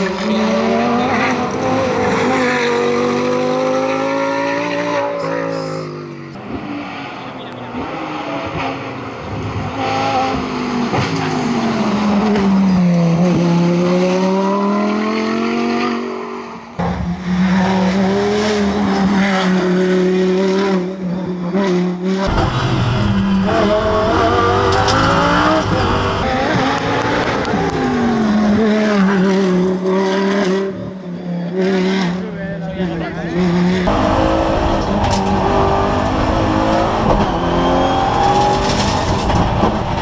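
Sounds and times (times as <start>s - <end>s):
race car engines at full throttle: 0.0s - 40.0s.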